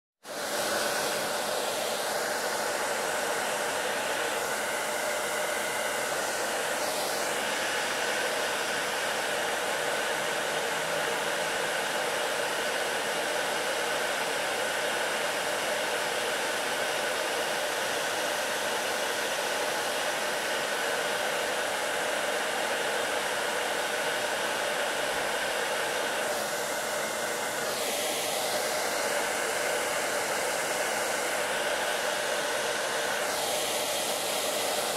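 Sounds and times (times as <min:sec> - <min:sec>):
heat gun blowing hot air: 0:00.2 - 0:34.9.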